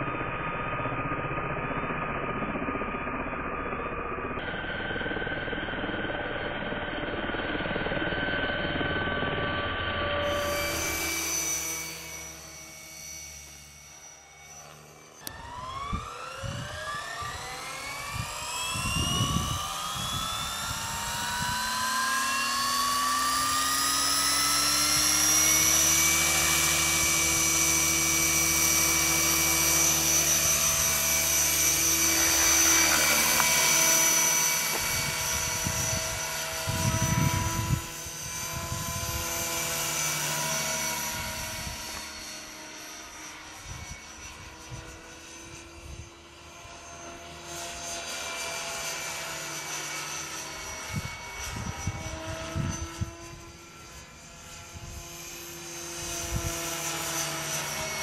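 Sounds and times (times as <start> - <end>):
rc helicopter rotor whine: 0.0 - 58.0.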